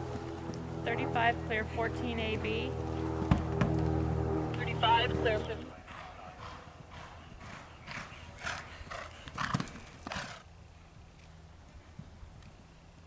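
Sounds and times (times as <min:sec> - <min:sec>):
horse galloping on turf: 0:00.0 - 0:13.0.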